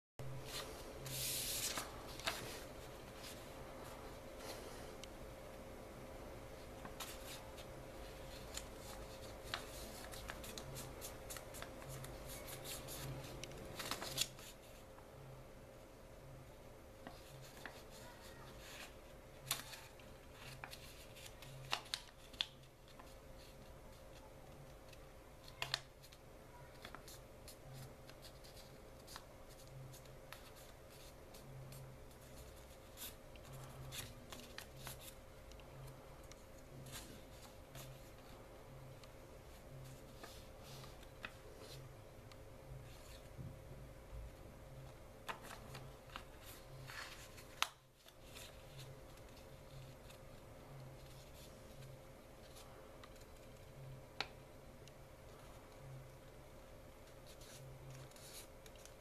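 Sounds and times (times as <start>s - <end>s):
paper crinkling and rustling: 0.4s - 4.6s, 6.8s - 14.8s, 17.0s - 41.9s, 45.2s - 54.3s, 57.0s - 59.0s.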